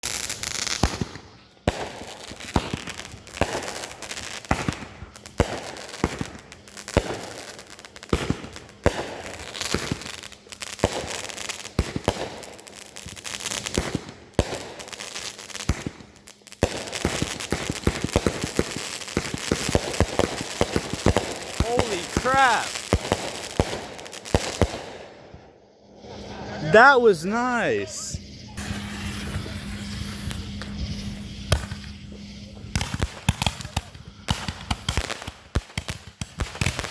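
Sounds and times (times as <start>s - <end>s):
fireworks bangs and crackling: 0.0s - 25.0s, 26.6s - 28.2s, 32.7s - 36.9s.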